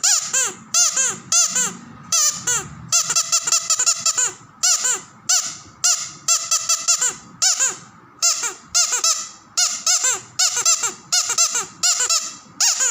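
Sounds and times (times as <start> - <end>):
squeaky dog toy squeaking: 0.0 - 12.9.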